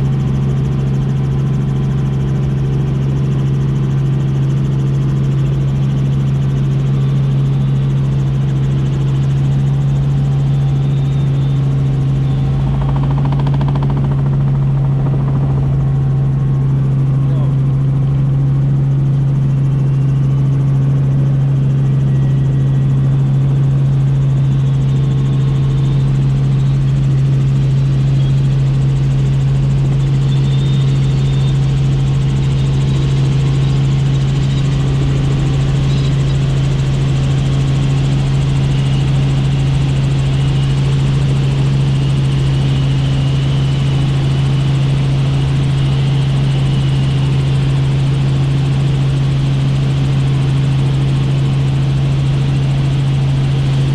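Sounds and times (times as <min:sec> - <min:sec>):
helicopter in flight: 0:00.0 - 0:53.9.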